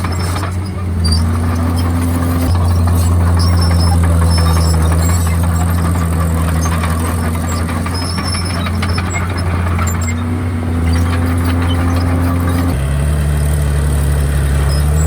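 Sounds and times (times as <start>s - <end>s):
high squeaks from tracks: 0.0s - 12.9s, 14.0s - 15.0s
bulldozer diesel engine running: 0.0s - 15.0s.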